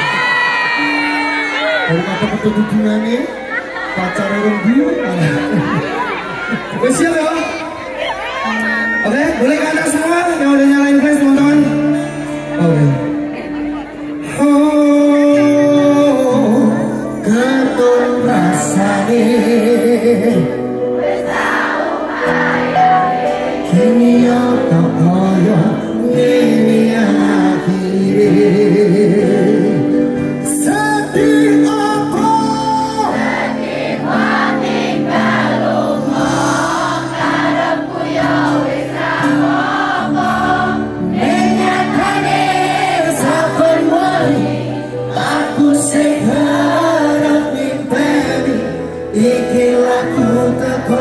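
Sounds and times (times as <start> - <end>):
crowd singing along: 0.0 - 51.0
live band playing pop song: 0.0 - 51.0.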